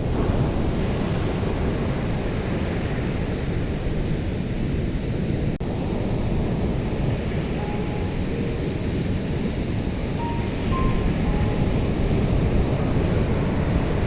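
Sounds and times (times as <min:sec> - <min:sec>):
ocean waves washing on beach: 0:00.0 - 0:14.0.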